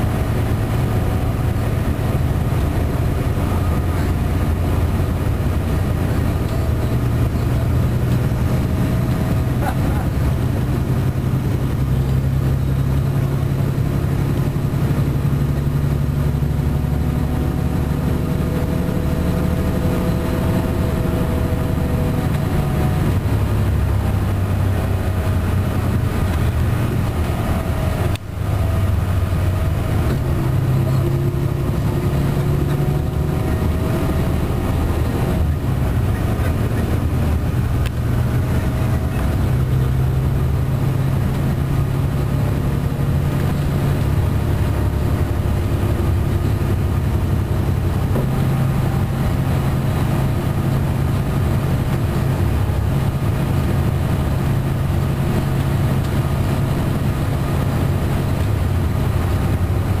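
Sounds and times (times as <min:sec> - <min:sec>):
diesel engine drone: 0:00.0 - 1:00.0
road noise: 0:00.0 - 1:00.0.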